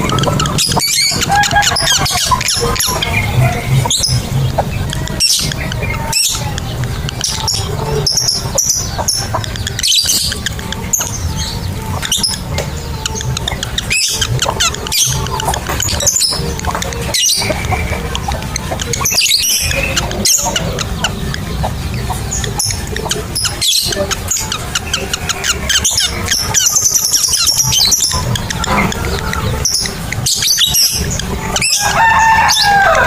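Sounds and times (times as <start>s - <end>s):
lovebirds chirping and squeaking: 0.0s - 33.0s.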